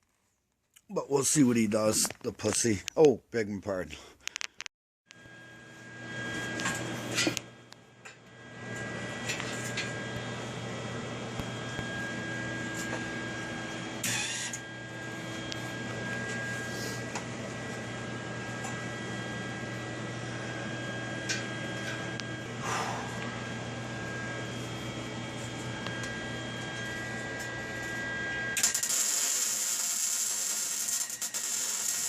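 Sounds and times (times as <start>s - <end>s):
mechanical hum with high whine: 5.1s - 32.0s.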